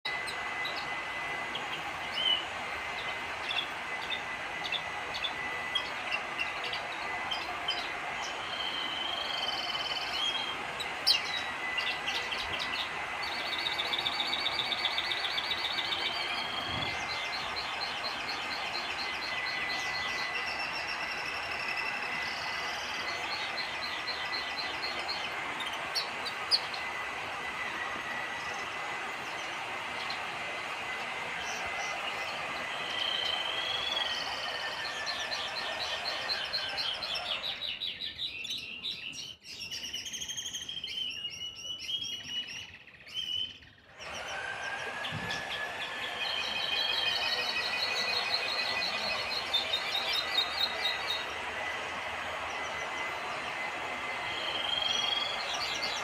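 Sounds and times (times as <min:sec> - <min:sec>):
songbird chirping and trilling: 0:00.1 - 0:27.0, 0:31.4 - 0:51.4, 0:54.2 - 0:56.0.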